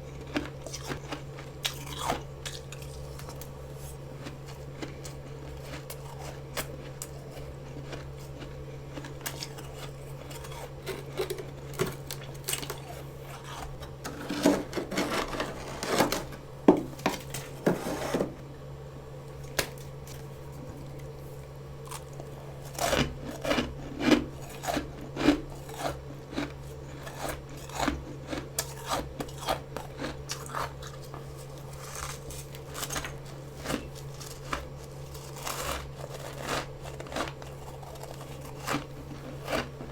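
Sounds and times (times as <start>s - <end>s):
frost being chewed crunching: 0.0s - 18.1s, 19.2s - 39.9s
steady low hum: 0.0s - 39.9s.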